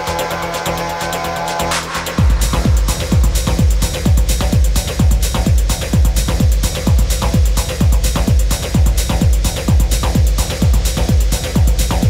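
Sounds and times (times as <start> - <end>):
heavy kick drum and deep bass: 0.0 - 12.0.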